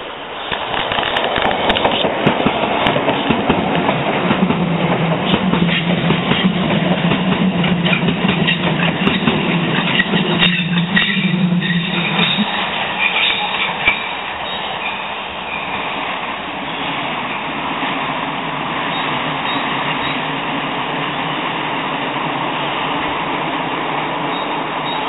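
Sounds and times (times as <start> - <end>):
tram rolling on rails: 0.0 - 25.0.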